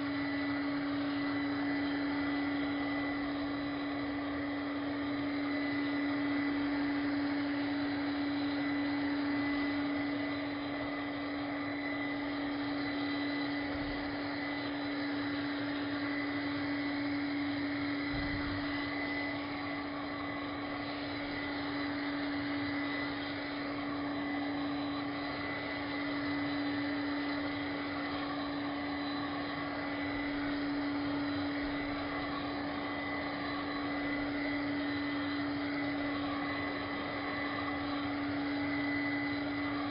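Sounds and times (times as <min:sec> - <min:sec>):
handheld vacuum running: 0:00.0 - 0:39.9.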